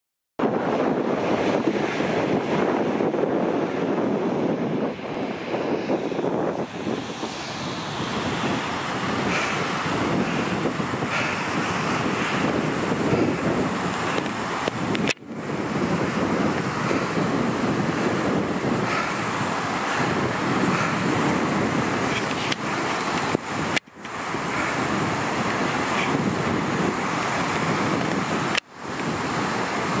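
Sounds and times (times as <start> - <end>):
breaking waves: 0.4 - 30.0
wind buffeting microphone: 0.4 - 30.0.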